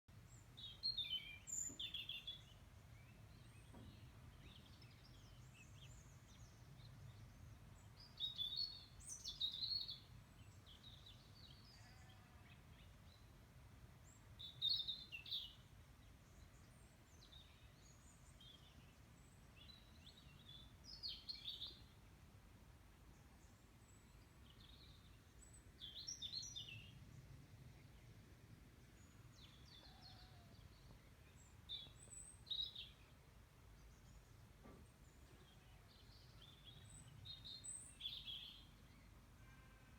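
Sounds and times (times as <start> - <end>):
songbird singing: 0.1 - 13.4, 14.0 - 39.7.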